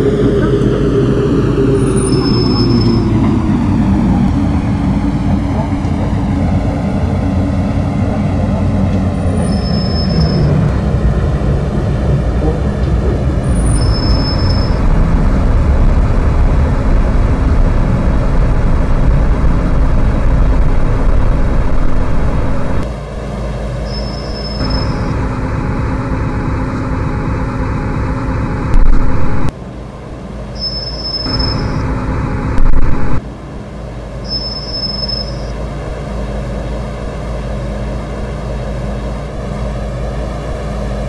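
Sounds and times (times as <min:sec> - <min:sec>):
electric train rumble and drone: 0:00.0 - 0:41.0.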